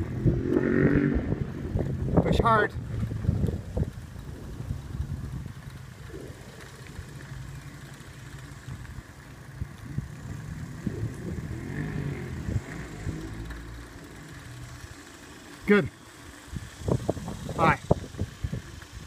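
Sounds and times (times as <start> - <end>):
wind rumble on microphone: 0.0 - 14.8, 16.4 - 19.0
rolling road noise: 0.0 - 19.0.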